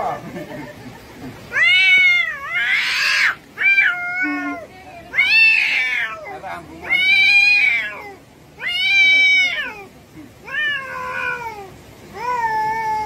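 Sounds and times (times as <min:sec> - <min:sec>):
cats yowling: 0:01.5 - 0:13.0.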